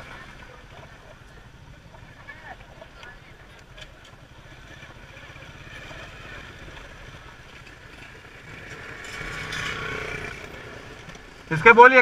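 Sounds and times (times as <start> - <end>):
motorcycle engine: 0.0 - 12.0
wind and road noise: 0.0 - 12.0.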